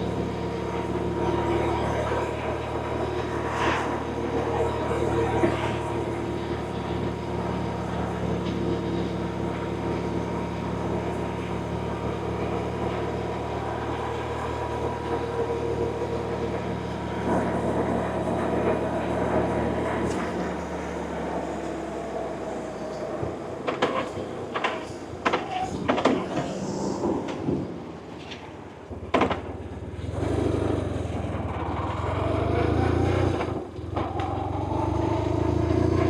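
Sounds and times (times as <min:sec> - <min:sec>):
road noise: 0:00.0 - 0:36.0.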